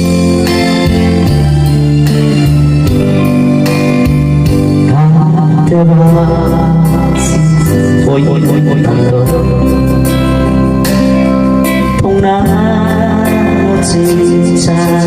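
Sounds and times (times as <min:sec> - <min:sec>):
slow ballad instrumental: 0:00.0 - 0:15.0.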